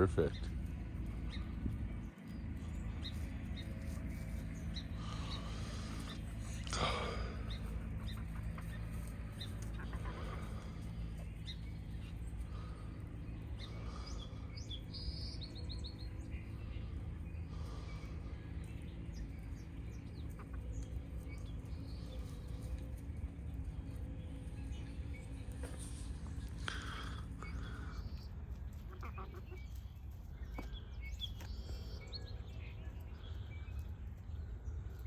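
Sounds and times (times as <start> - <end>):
birds chirping: 0.0 - 35.0
steady low rumble: 0.0 - 35.0.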